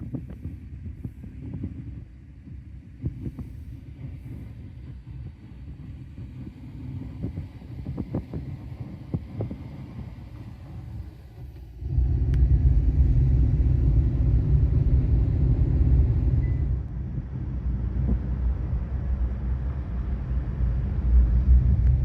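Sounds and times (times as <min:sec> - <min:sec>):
car rumbling: 0:00.0 - 0:22.0.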